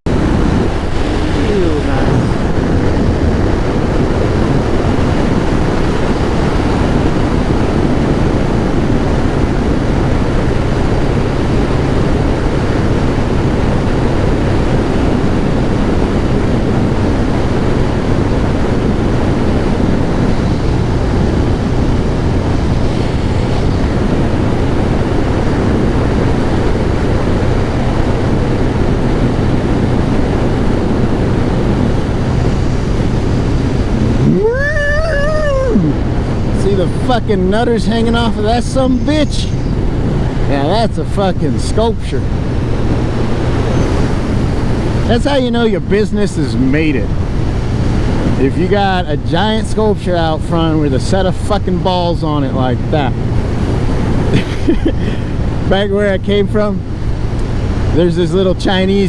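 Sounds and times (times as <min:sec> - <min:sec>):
motorcycle engine cruising: 0:00.0 - 0:59.0
wind on microphone: 0:00.0 - 0:59.0.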